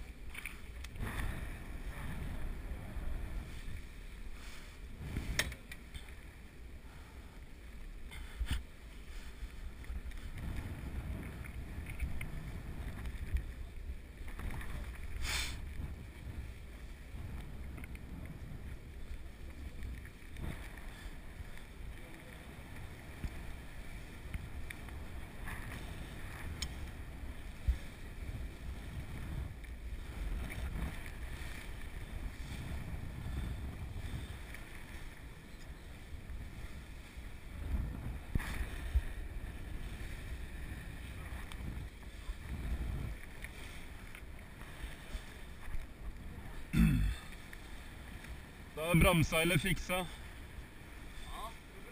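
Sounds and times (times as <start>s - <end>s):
wind buffeting microphone: 0.0s - 6.3s, 8.1s - 51.9s.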